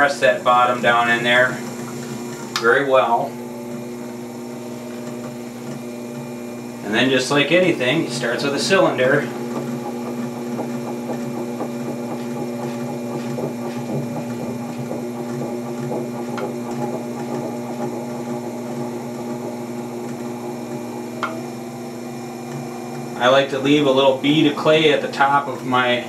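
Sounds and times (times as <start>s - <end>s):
potter's wheel motor hum: 0.0s - 26.0s.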